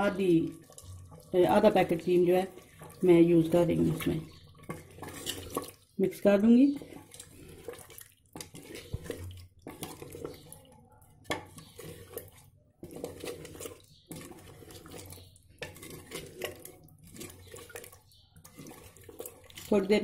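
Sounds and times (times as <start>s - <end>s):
wooden spoon scraping clay pot: 0.0s - 20.0s.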